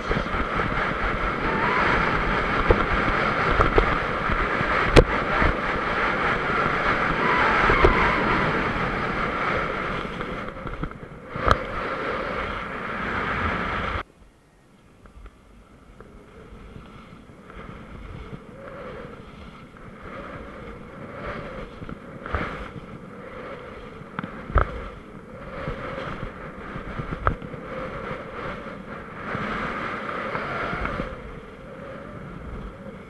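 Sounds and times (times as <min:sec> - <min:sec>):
skis scraping over bumpy snow: 0:00.0 - 0:14.0, 0:16.0 - 0:33.0
wind on camera microphone: 0:00.0 - 0:14.3, 0:14.9 - 0:33.0.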